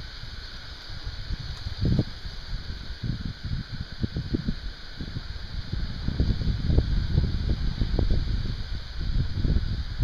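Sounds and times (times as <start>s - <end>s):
breeze rustling leaves: 0.0s - 10.0s
wind buffeting microphone: 0.0s - 10.0s.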